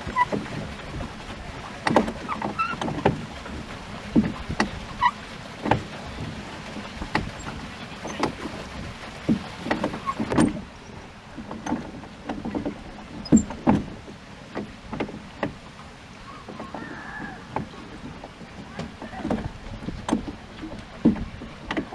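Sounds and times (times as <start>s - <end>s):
water splashing against boat: 0.0s - 21.9s.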